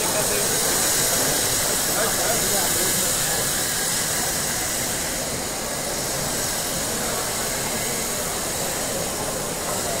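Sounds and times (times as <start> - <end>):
crowd murmur in a hall: 0.0 - 10.0.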